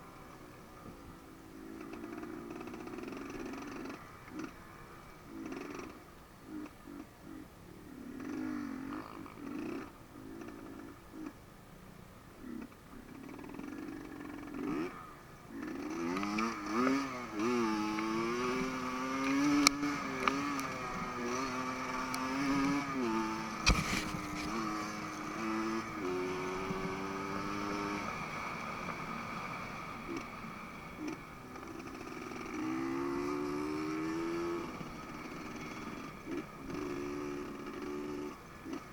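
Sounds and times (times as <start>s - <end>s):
dirt bike engine revving: 1.3s - 11.4s, 12.4s - 38.9s.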